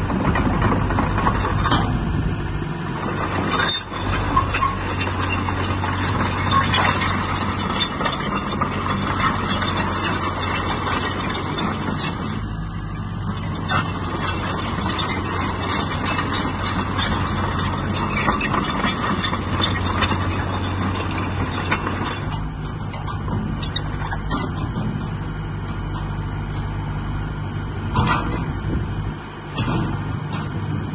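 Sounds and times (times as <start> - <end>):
clanks and rattles: 0.0 - 2.1, 3.0 - 12.5, 13.2 - 26.7, 27.9 - 28.8, 29.5 - 30.6
excavator diesel engine running: 0.0 - 30.9.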